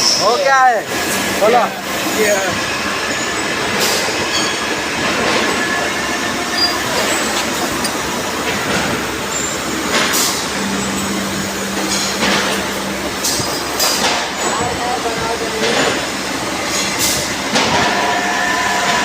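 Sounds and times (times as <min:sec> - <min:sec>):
industrial machinery rattling: 0:00.0 - 0:19.0.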